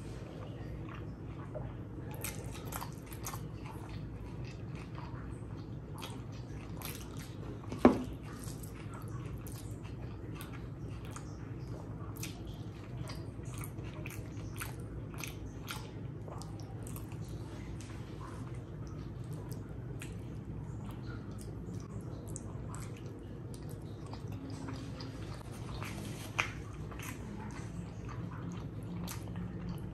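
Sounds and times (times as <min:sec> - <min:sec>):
wet chewing and lip-smacking: 0:00.4 - 0:29.9.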